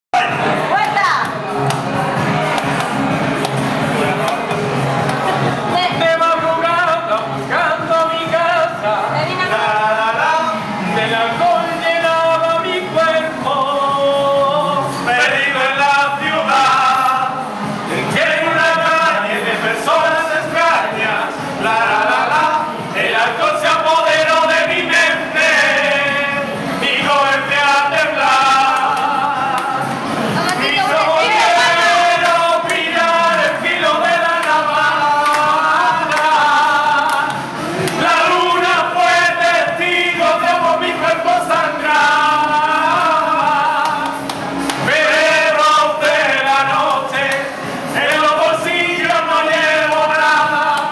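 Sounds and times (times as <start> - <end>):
men singing unaccompanied: 0.2 - 50.9.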